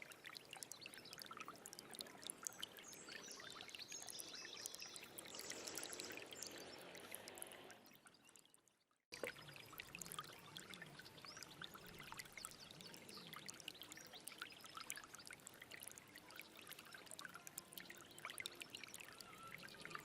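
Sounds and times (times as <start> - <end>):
stream trickling and splashing: 0.0 - 20.0.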